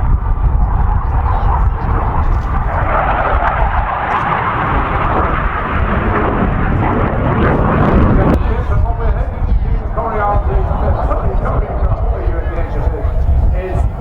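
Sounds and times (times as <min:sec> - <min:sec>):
jet passing with rushing roar: 0:00.0 - 0:14.0.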